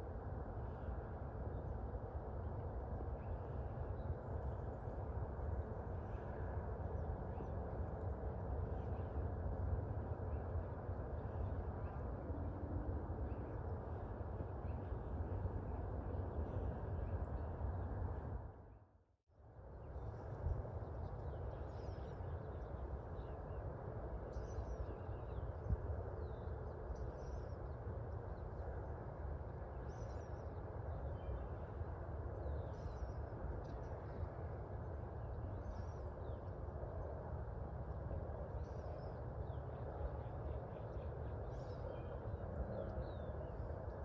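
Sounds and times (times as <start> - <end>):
low rumble and hiss: 0.0 - 18.8, 19.4 - 44.0.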